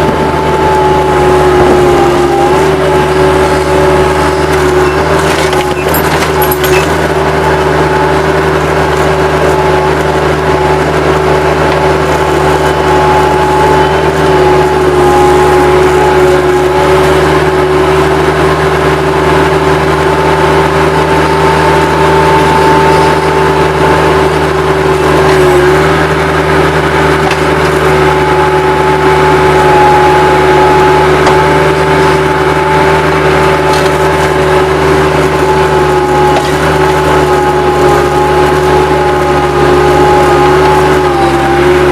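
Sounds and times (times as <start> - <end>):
diesel engine running: 0.0 - 41.9
steady whine: 0.0 - 41.9.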